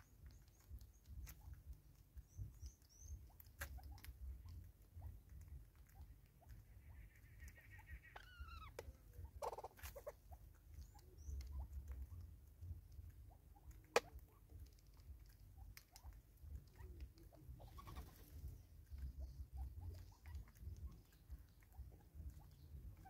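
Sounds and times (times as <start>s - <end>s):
birds pecking taps and clicks: 0.0s - 23.0s
faint low rumble: 0.0s - 23.0s.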